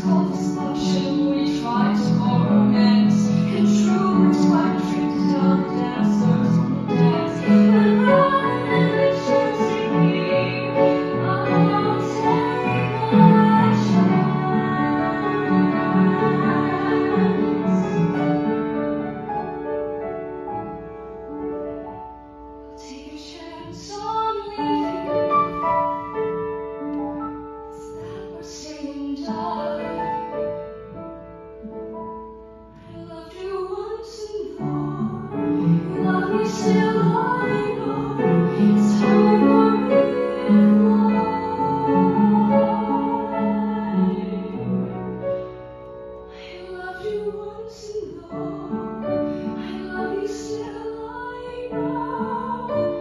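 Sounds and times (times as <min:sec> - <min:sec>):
young woman singing a ballad: 0:00.0 - 0:18.2, 0:22.7 - 0:25.6, 0:27.7 - 0:30.3, 0:32.8 - 0:44.9, 0:46.3 - 0:53.0
grand piano accompaniment: 0:00.0 - 0:53.0.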